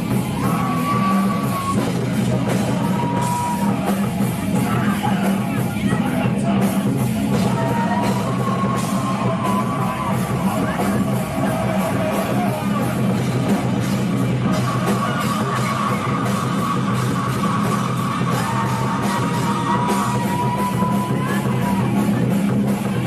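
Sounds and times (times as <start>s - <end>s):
fast drumming: 0.0s - 23.0s
heavy metal band playing: 0.0s - 23.0s.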